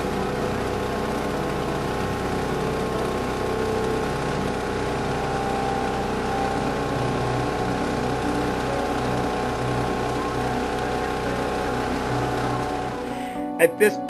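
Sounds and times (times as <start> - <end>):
boat engine droning: 0.0 - 13.6.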